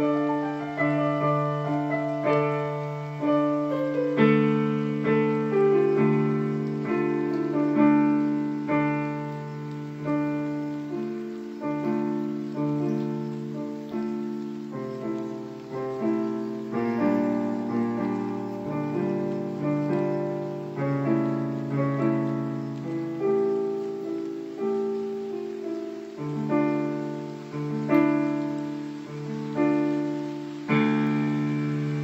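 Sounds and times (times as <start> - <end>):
solo piano music: 0.0 - 32.0.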